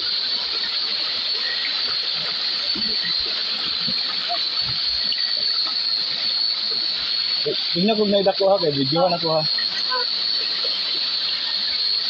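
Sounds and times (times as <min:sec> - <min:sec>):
high-pitched whine: 0:00.0 - 0:12.0
stream water over rocks: 0:00.0 - 0:12.0.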